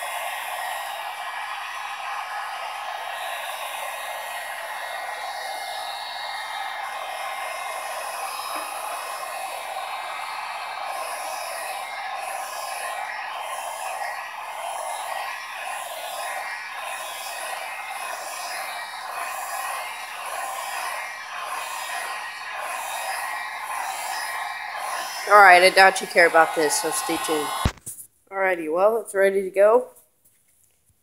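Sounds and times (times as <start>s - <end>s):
heat gun fan hissing: 0.0s - 27.9s.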